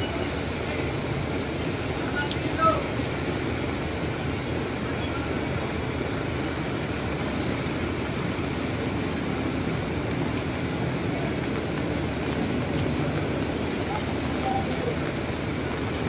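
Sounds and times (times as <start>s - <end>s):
heavy rain on a wet street: 0.0s - 16.0s.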